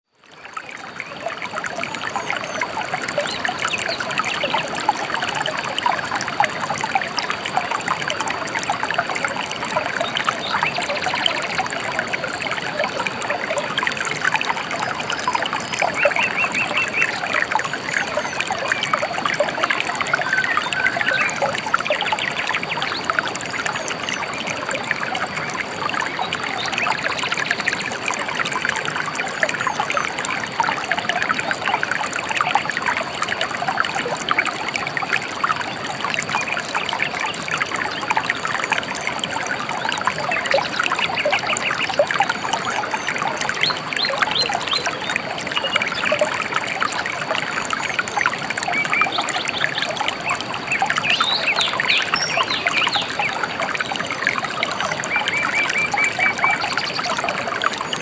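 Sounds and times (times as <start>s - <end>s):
stream babbling: 0.2s - 58.0s.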